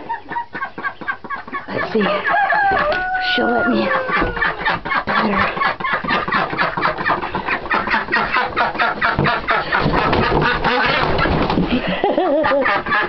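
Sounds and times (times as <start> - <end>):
chickens clucking: 0.0 - 13.0
ducks quacking: 0.0 - 13.0.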